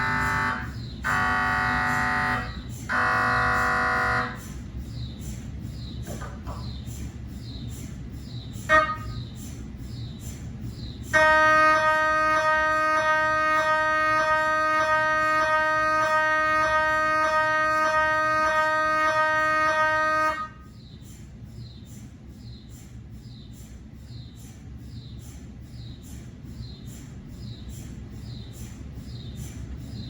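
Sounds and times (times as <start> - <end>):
faint rhythmic chirp: 0.0 - 30.0
mri scanner pulsing buzz: 0.0 - 30.0.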